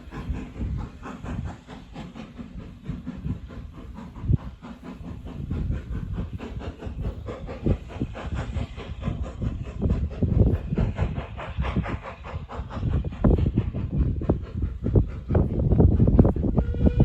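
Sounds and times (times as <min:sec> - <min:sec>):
train running on rails: 0:00.0 - 0:17.0.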